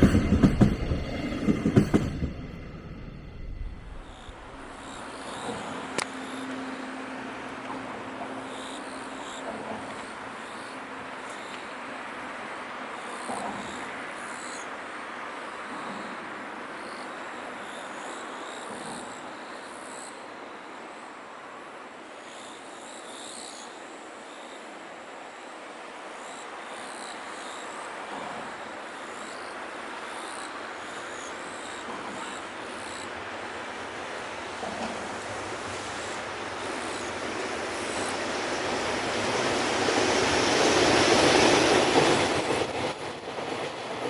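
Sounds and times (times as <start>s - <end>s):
train rolling on rails: 0.0s - 22.1s, 24.6s - 44.0s.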